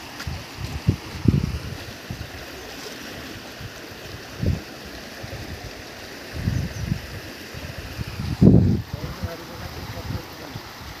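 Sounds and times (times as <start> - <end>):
water rushing and churning: 0.0 - 11.0.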